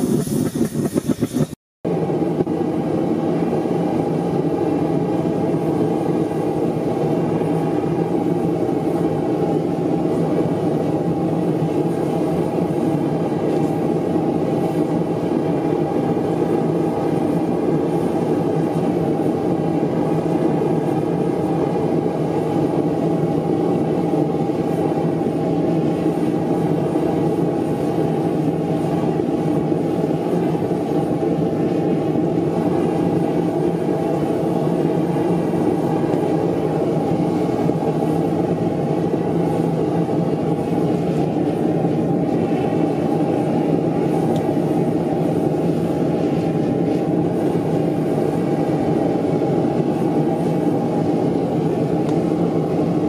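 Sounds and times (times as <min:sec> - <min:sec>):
gas burner flame roaring: 0:00.0 - 0:53.0.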